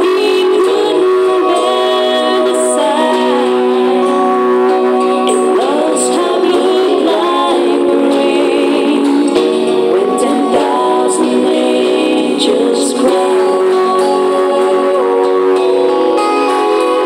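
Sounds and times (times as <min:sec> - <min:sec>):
long held chords: 0:00.0 - 0:17.0
person singing: 0:00.0 - 0:17.0.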